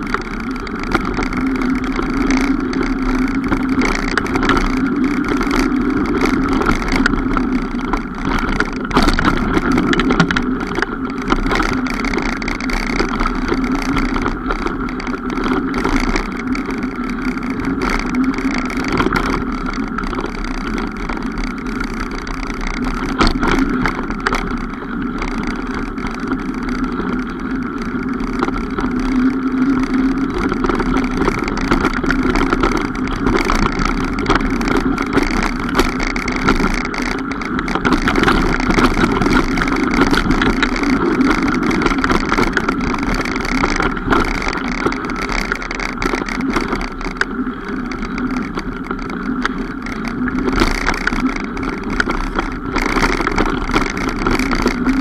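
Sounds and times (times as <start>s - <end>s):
bike clicks and rattles: 0.0s - 55.0s
mountain bike rushing noise: 0.0s - 55.0s.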